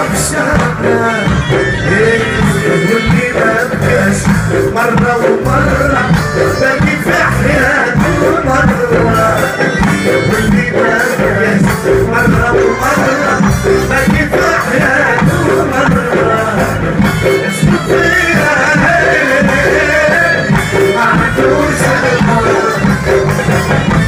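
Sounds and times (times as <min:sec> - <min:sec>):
frame drums beating: 0:00.0 - 0:24.0
lutes and guitar: 0:00.0 - 0:24.0.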